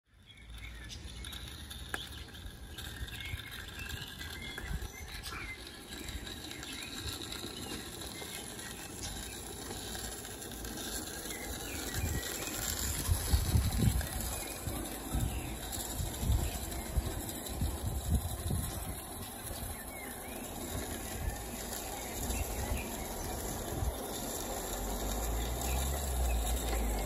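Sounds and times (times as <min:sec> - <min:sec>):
birds chirping: 0:00.1 - 0:27.0
small steam locomotive running: 0:00.4 - 0:27.0.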